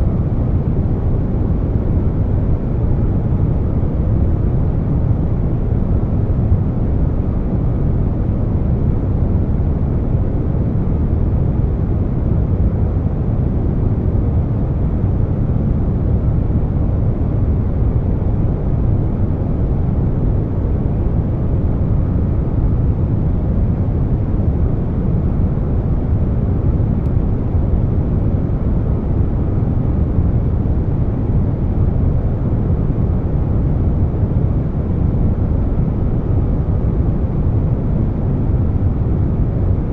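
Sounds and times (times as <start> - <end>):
air conditioner rumble: 0.0 - 39.9.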